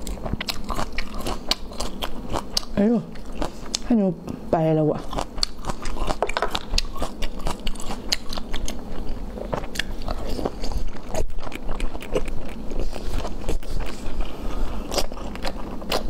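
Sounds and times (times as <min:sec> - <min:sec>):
chewing soft food: 0:00.0 - 0:04.4, 0:05.0 - 0:16.0.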